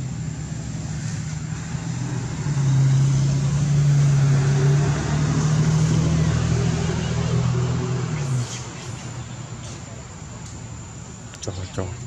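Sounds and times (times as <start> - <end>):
engine running with low hum: 0.0 - 12.0.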